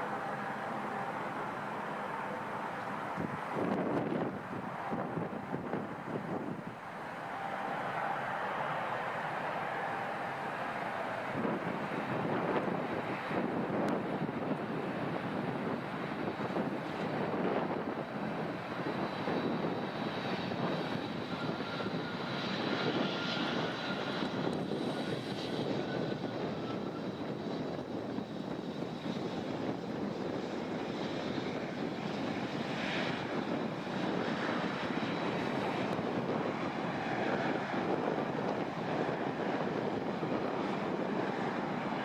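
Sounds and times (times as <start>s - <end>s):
airliner engines running: 0.0s - 42.0s.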